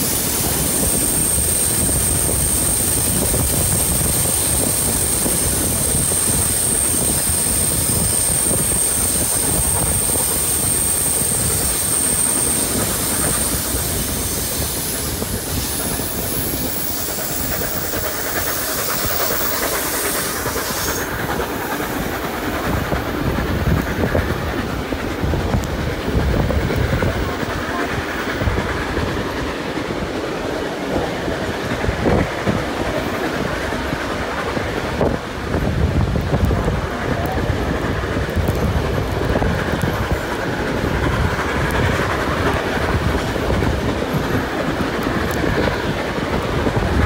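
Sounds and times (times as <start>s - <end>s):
train carriages rumbling and rattling: 0.0s - 47.0s
wind noise: 0.0s - 47.0s.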